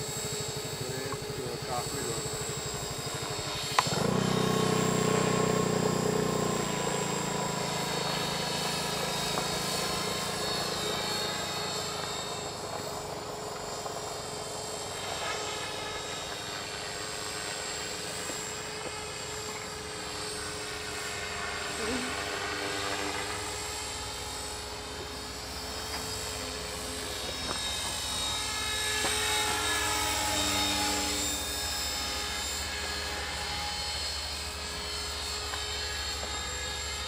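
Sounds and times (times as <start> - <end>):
model helicopter flying: 0.0 - 37.0.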